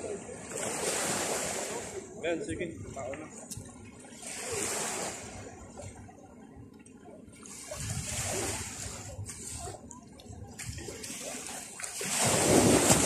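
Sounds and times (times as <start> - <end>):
waves washing onto sandy beach: 0.0 - 6.1, 7.3 - 13.0.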